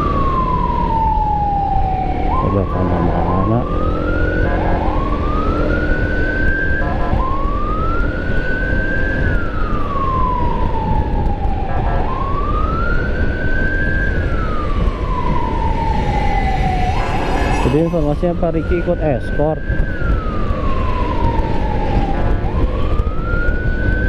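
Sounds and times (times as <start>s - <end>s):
emergency vehicle siren wailing: 0.0s - 24.0s
wind and road noise: 0.0s - 24.0s.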